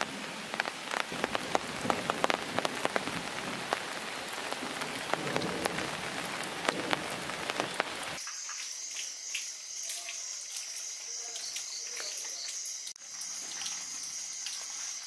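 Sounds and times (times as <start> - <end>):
rain falling on water and foliage: 0.0 - 15.0
night insects chirring: 1.2 - 15.0.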